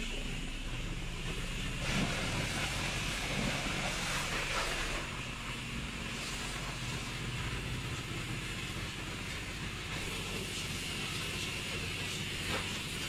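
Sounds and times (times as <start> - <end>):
low pulsing mechanical drone: 0.0 - 13.0
hiss: 1.3 - 13.0.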